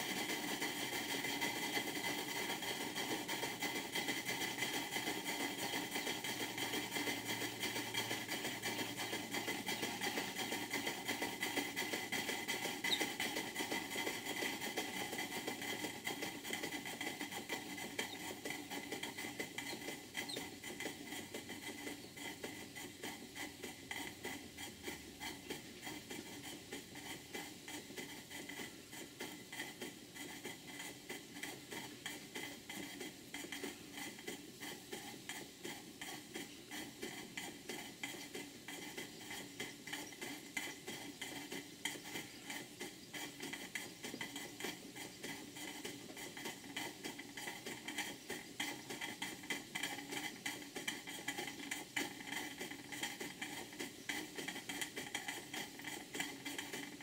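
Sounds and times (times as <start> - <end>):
model steam engines running: 0.0 - 57.0.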